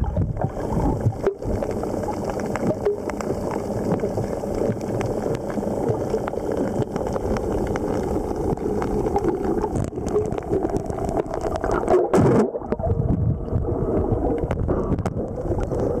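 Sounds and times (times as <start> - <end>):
muffled underwater rumble: 0.0 - 16.0
underwater clicks and gurgling: 0.0 - 16.0.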